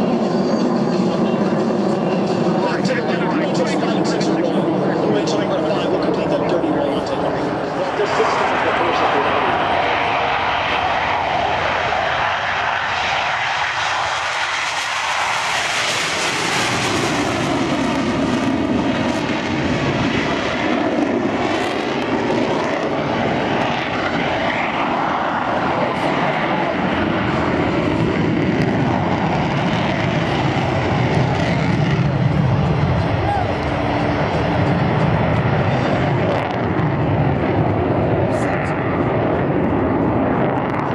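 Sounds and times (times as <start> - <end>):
jet engines roaring past: 0.0 - 40.9.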